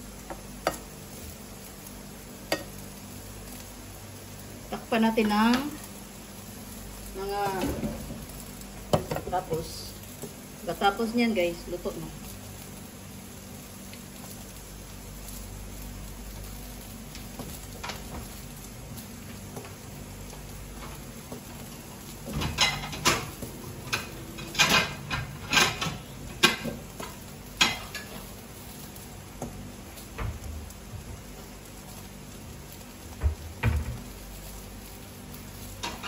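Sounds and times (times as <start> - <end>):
sauce simmering with low hiss: 0.0 - 36.0.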